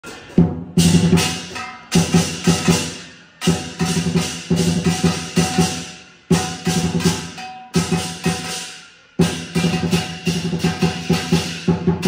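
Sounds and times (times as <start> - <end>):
drum and cymbal percussion: 0.0 - 12.0.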